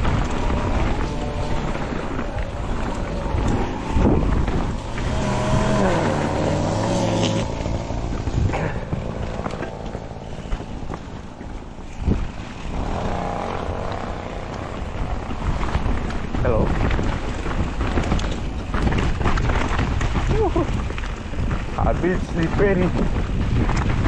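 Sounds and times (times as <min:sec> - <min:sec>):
bike knocking over bumps: 0:00.0 - 0:24.0
wind and tyre noise: 0:00.0 - 0:24.0.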